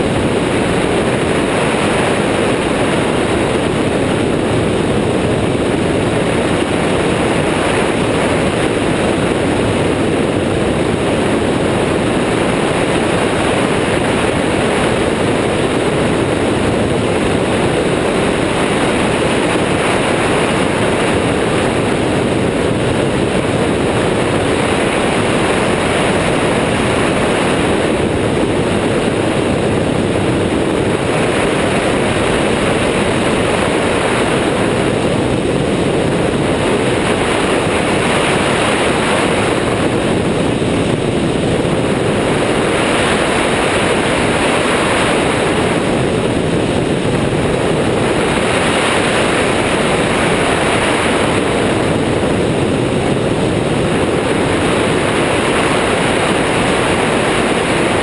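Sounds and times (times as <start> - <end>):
engine and propeller drone: 0.0 - 58.0
wind rushing over microphone: 0.0 - 58.0.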